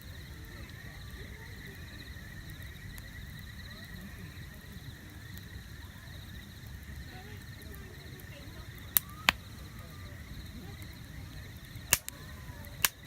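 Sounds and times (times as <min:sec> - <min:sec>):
campfire crackling: 0:00.0 - 0:13.0
insects trilling: 0:00.0 - 0:13.0.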